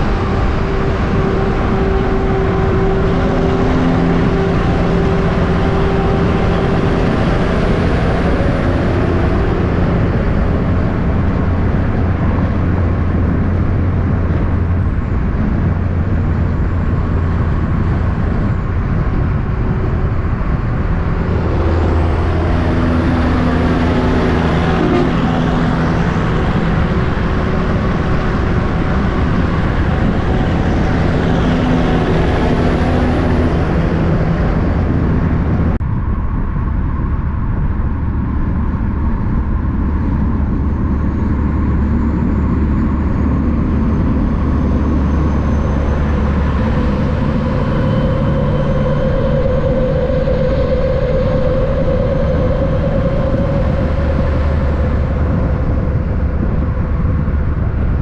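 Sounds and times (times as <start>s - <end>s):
truck diesel engines running: 0.0s - 35.8s, 36.8s - 58.0s.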